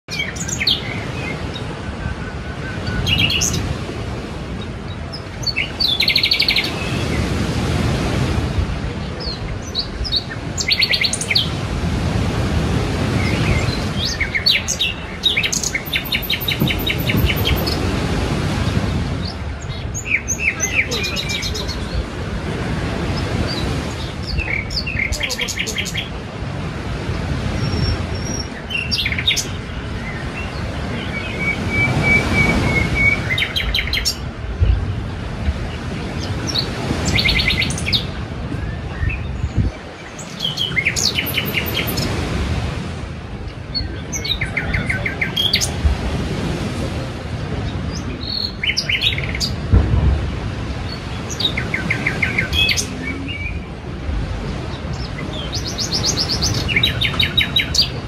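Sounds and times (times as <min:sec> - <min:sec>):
small birds chirping: 0:00.0 - 0:03.8, 0:04.6 - 0:07.4, 0:09.0 - 0:11.7, 0:13.1 - 0:17.9, 0:18.6 - 0:22.2, 0:23.1 - 0:26.2, 0:27.1 - 0:42.4, 0:43.4 - 0:45.9, 0:47.6 - 0:49.8, 0:50.4 - 0:53.8, 0:54.5 - 0:58.0
sea waves washing ashore: 0:00.1 - 0:58.0.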